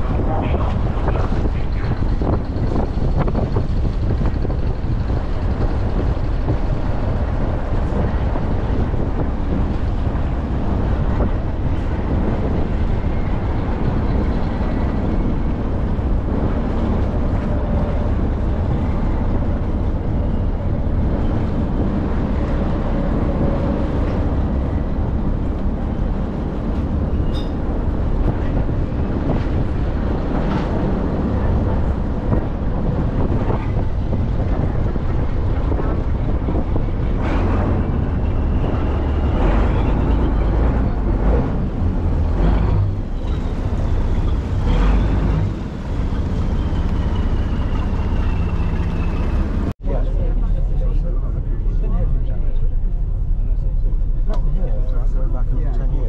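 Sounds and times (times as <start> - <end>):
boat engine droning: 0.0 - 56.0
wind buffeting microphone: 0.0 - 56.0.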